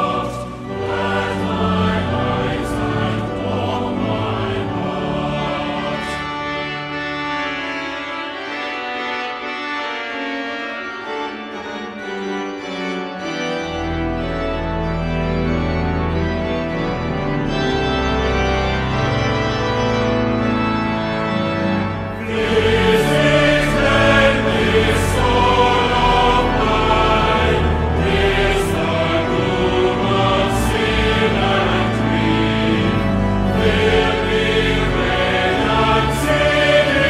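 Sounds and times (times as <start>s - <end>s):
choir singing a hymn: 0.0s - 14.4s, 15.4s - 37.0s
organ playing held chords: 0.0s - 37.0s.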